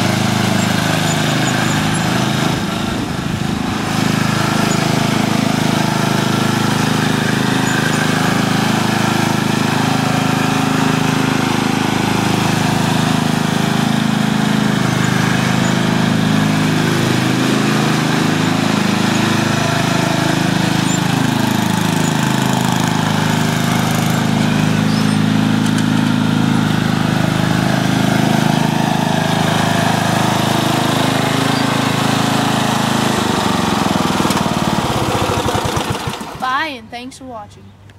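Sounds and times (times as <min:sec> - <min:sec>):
riding lawn tractor engine running: 0:00.0 - 0:37.1.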